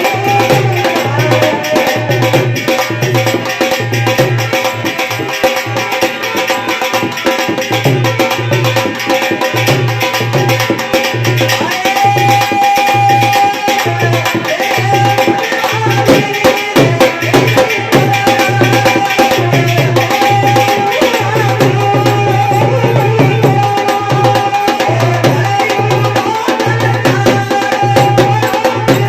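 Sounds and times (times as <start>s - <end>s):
sharp percussion strikes: 0.0s - 29.0s.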